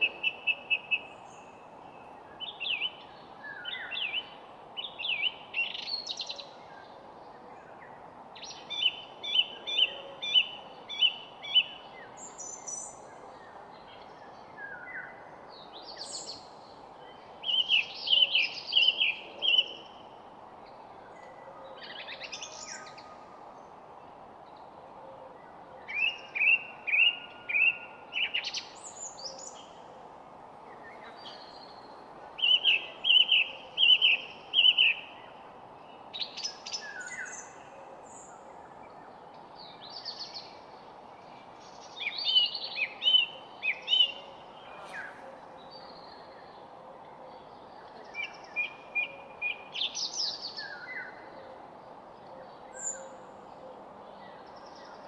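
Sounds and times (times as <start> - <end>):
low background hiss: 0.0 - 55.0
songbirds chirping: 0.0 - 55.0.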